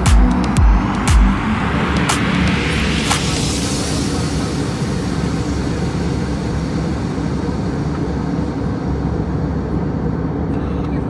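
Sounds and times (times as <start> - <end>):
jet airliner cabin noise: 0.4 - 11.0.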